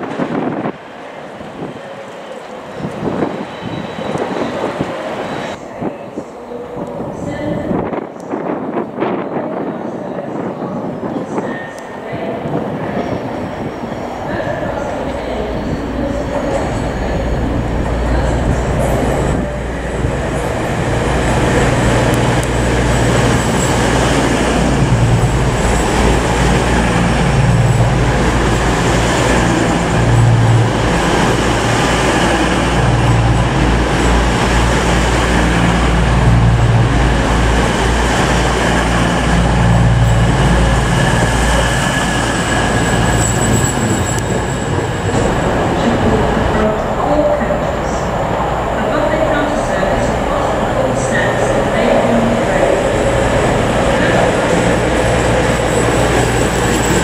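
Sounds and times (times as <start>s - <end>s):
diesel train engines rumbling: 0.0s - 57.0s.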